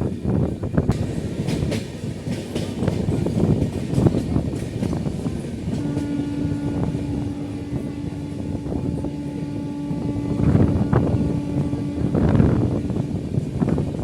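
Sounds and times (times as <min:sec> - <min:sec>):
train rumbling in motion: 0:00.0 - 0:14.0.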